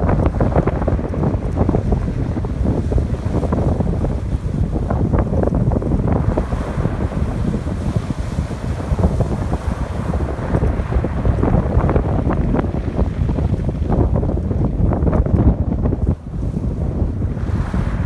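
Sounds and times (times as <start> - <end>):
surf breaking on shore: 0.0 - 18.0
wind buffeting microphone: 0.0 - 18.0.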